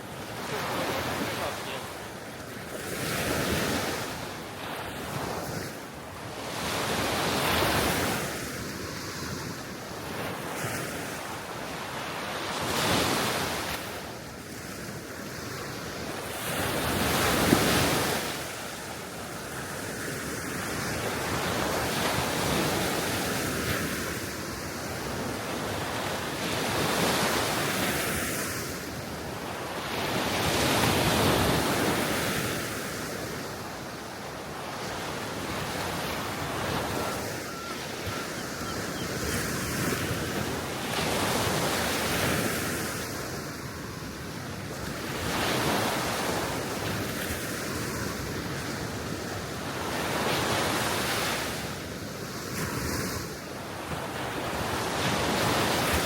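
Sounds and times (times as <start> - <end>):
small waves breaking on shore: 0.0 - 56.0.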